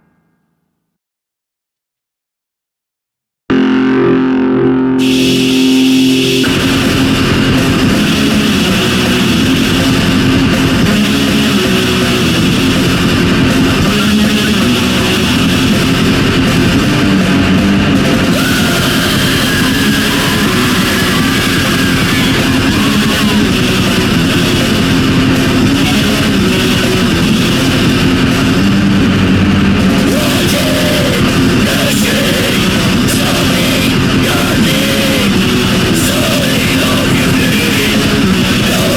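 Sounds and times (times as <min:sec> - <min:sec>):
heavy metal band playing: 0:03.5 - 0:38.9.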